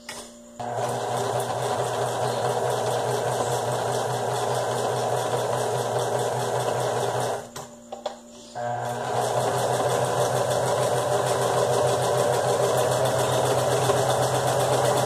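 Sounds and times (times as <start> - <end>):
sewing machine stitching: 0.6 - 7.5, 8.6 - 15.0.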